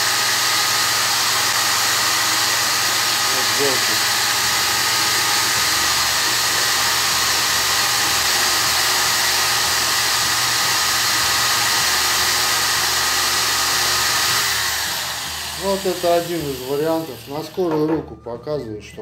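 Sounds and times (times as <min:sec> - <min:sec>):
angle grinder running: 0:00.0 - 0:18.0.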